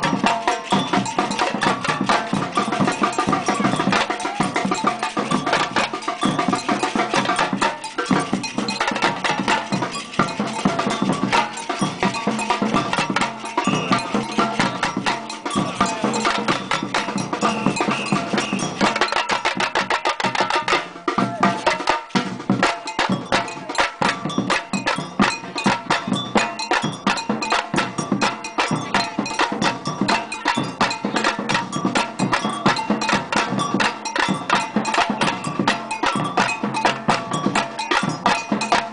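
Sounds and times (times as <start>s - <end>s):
bell strokes: 0.0s - 38.9s
samba drums: 0.0s - 38.9s.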